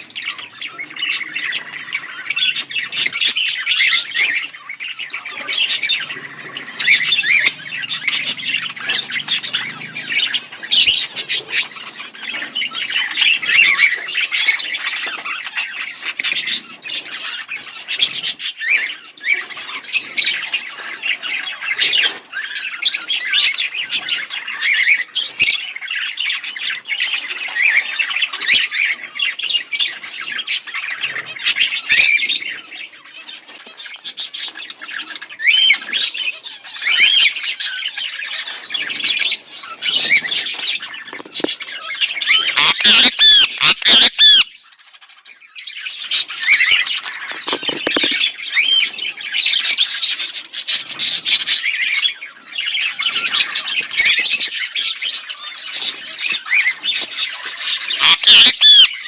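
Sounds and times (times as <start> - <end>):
budgerigars chattering and chirping: 0.0 - 59.0.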